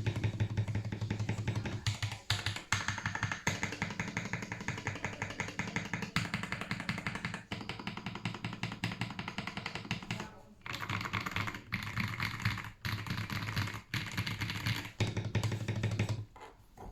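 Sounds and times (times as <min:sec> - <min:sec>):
mechanical keyboard typing: 0:00.0 - 0:16.2.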